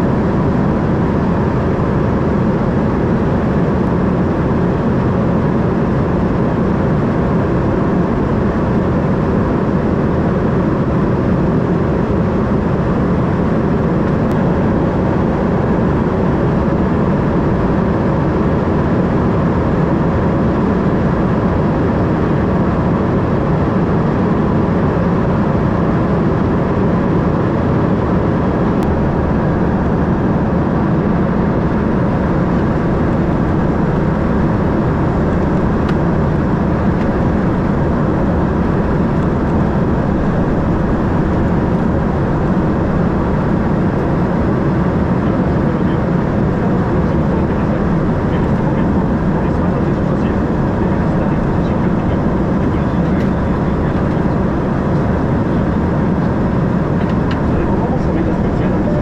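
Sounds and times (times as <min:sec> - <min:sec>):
jet engine drone: 0:00.0 - 0:59.0
air rushing along fuselage: 0:10.1 - 0:59.0.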